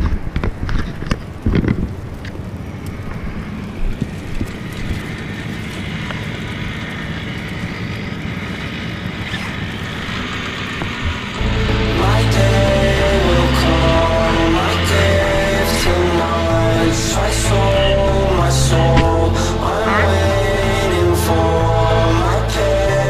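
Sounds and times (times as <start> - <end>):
background rumble: 0.0 - 23.0.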